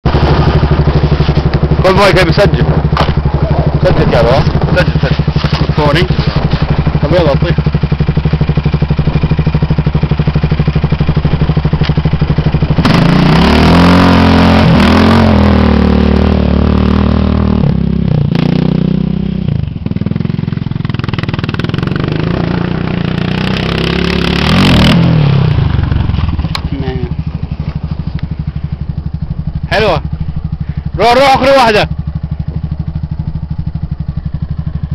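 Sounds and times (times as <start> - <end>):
quad engine idling and revving: 0.0 - 34.9.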